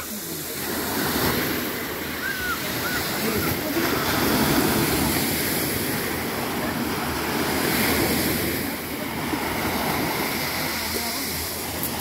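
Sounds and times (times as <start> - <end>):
waves washing on pebble beach: 0.0 - 12.0.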